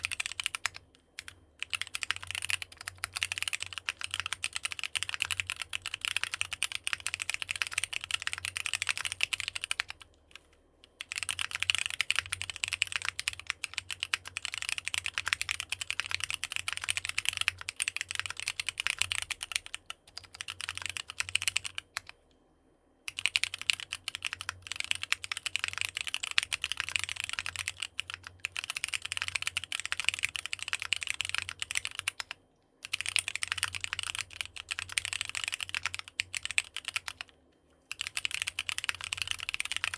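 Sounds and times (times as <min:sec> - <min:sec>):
fast typing on mechanical keyboard: 0:00.0 - 0:10.1, 0:11.0 - 0:22.2, 0:23.1 - 0:37.3, 0:37.9 - 0:39.9.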